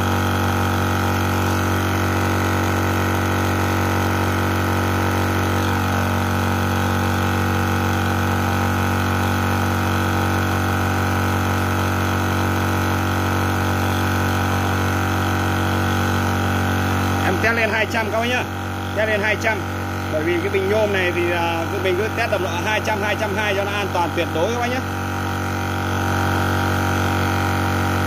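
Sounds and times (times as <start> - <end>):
air compressor humming: 0.0 - 28.0.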